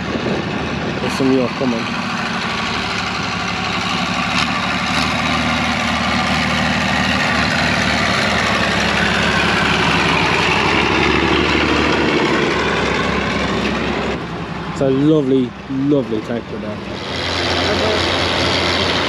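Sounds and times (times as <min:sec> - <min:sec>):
tractor driving past: 0:00.0 - 0:19.0
tractor idling: 0:00.0 - 0:19.0.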